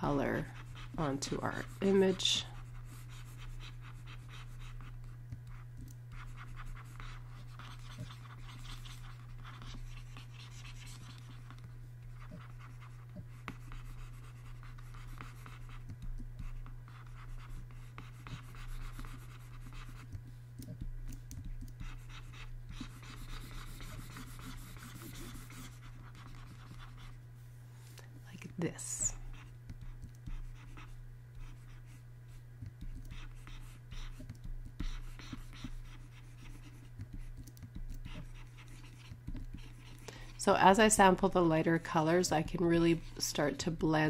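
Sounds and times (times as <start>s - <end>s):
stylus scratching on tablet: 0.0s - 27.2s, 28.3s - 44.0s.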